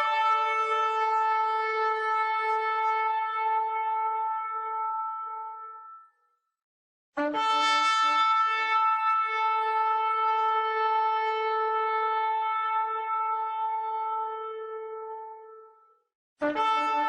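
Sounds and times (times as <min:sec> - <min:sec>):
shofar blast: 0:00.0 - 0:06.0, 0:07.2 - 0:15.8, 0:16.4 - 0:17.0.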